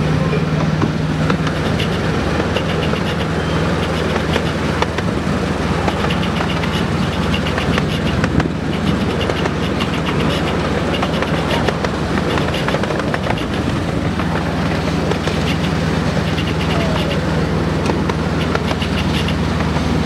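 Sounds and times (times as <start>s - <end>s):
low drone from train: 0.0s - 20.0s
train wheels clicking over rails: 0.6s - 20.0s.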